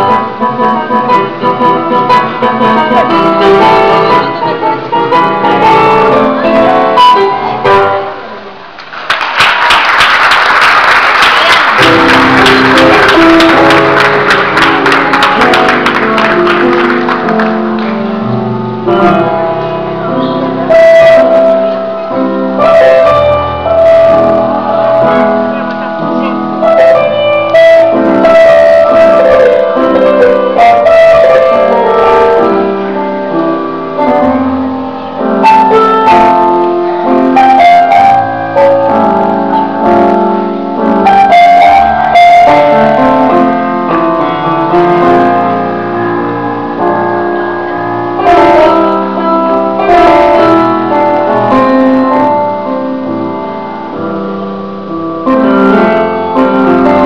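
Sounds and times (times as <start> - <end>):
piano music: 0.0 - 8.8, 10.4 - 57.0.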